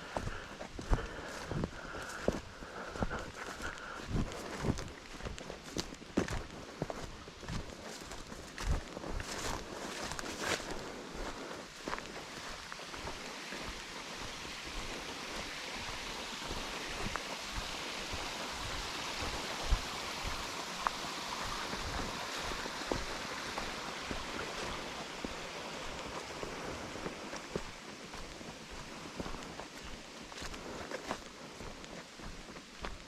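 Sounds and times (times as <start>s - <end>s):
stream running: 0.0s - 33.0s.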